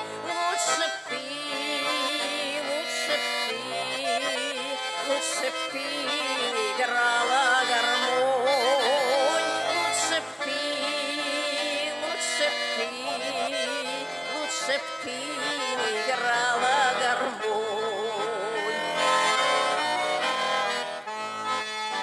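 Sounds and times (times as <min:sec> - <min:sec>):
accordion folk music: 0:00.0 - 0:22.0.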